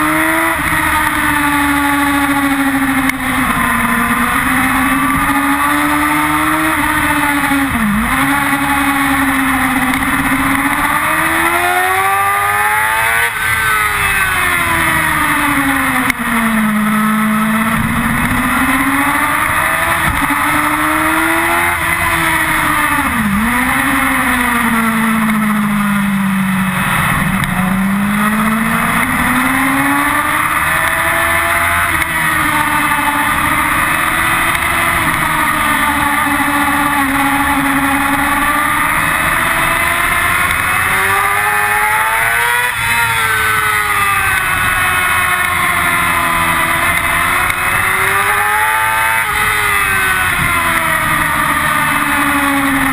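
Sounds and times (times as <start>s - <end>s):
motorcycle engine at high revs: 0.0s - 52.9s.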